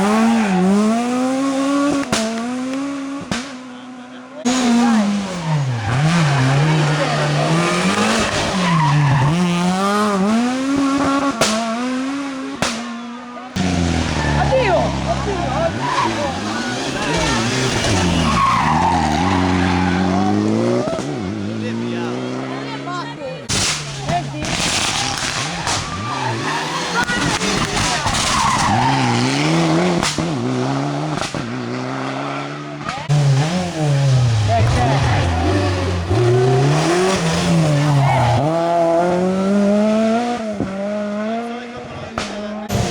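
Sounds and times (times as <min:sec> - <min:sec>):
rally car engine revving: 0:00.0 - 0:42.9
tyres skidding: 0:00.0 - 0:42.9.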